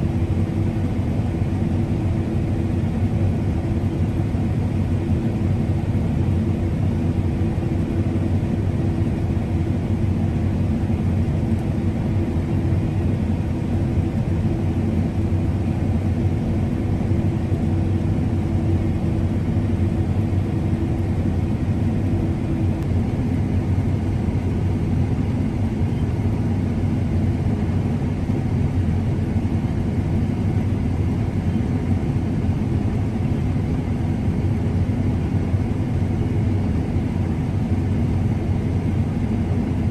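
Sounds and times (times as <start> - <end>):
combine harvester engine rumble: 0.0 - 39.9.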